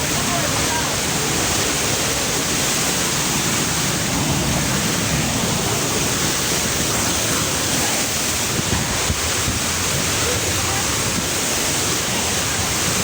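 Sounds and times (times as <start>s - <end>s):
river water over waterfall: 0.0s - 13.0s.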